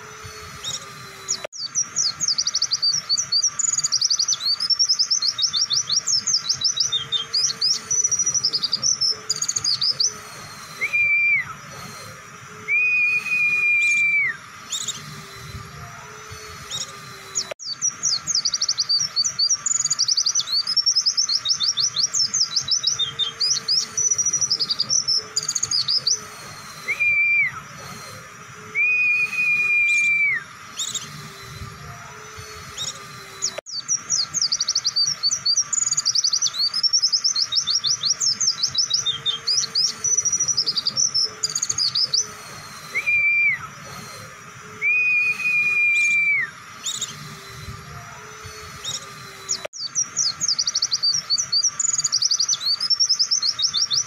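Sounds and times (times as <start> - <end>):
bird twittering: 0.0 - 54.0
long whistled notes: 0.0 - 54.0.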